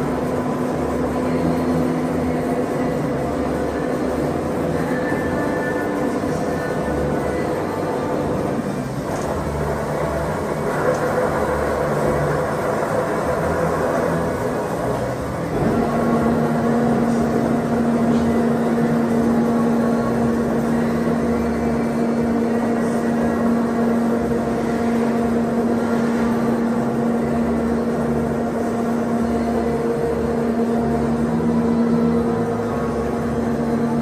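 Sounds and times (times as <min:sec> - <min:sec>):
machine hum: 0:00.0 - 0:34.0
strong steady machine tone: 0:00.0 - 0:34.0.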